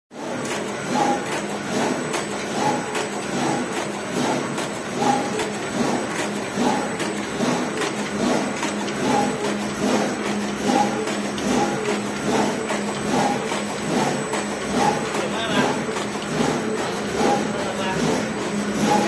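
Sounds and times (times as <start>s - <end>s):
machine hum: 0.2s - 19.0s.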